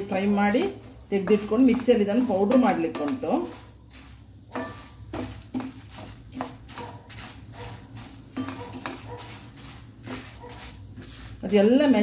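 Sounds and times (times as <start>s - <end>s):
spatula scraping spices in pan: 0.0s - 12.0s.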